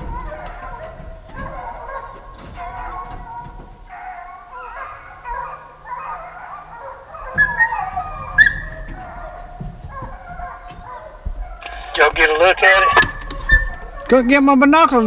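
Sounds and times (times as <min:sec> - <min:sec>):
dogs yelping: 0:00.0 - 0:15.0
hounds baying and howling: 0:00.0 - 0:15.0.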